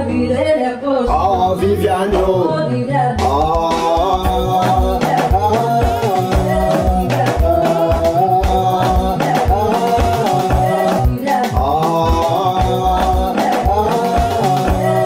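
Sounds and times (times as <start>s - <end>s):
pop song with sung vocal: 0.0s - 15.0s
bass and drum beat: 1.1s - 2.6s, 3.2s - 15.0s.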